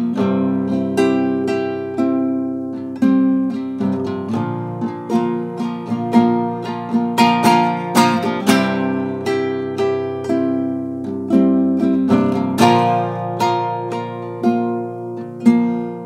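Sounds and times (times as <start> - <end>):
classical guitar chords: 0.0 - 16.0.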